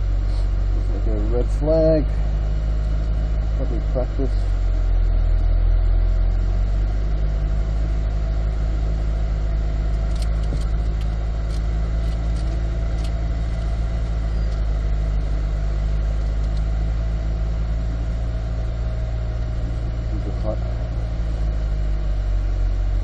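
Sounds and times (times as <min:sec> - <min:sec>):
car engine idling rumble: 0:00.0 - 0:23.0.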